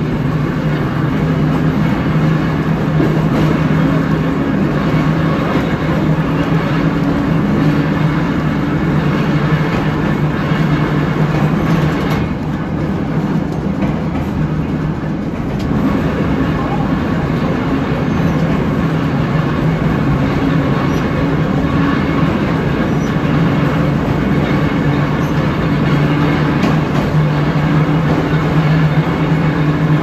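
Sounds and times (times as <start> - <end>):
rumble of wheels on rails: 0.0 - 30.0.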